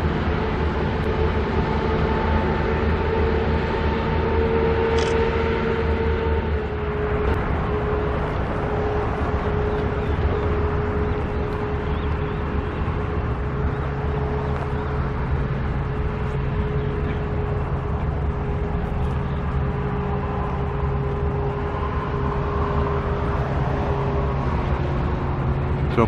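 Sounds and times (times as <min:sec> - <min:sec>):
constant whine: 0:00.0 - 0:26.0
engine droning: 0:00.0 - 0:26.0.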